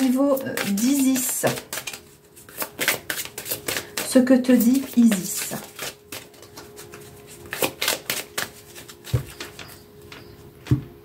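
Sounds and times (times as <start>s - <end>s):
cards shuffled by hand: 0.0s - 10.3s.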